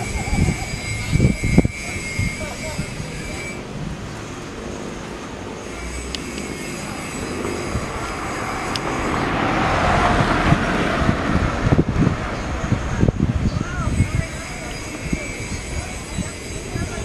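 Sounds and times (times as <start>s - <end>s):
distant jet engines rushing: 0.0s - 17.0s.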